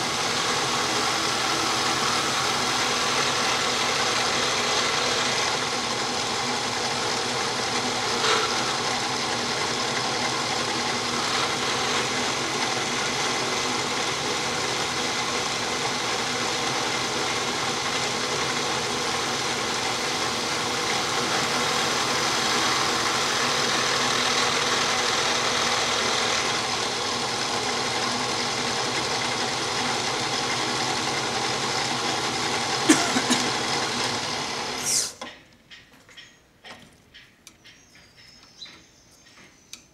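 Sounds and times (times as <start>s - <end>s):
electric drill motor hum: 0.0s - 35.2s.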